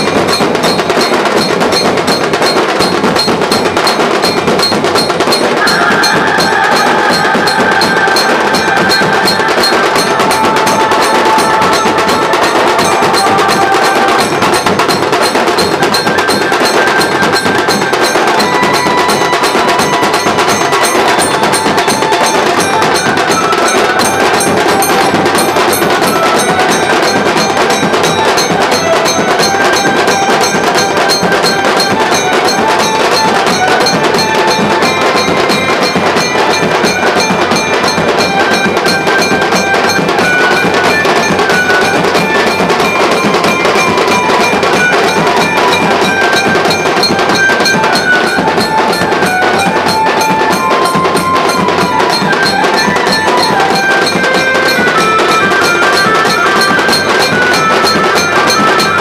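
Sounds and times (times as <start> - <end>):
drum band playing fast rhythm: 0.0 - 59.0
melody line over drums: 0.0 - 59.0.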